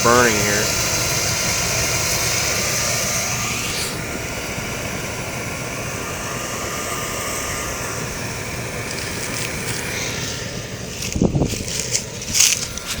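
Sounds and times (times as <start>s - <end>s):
furnace burner rushing: 0.0s - 13.0s.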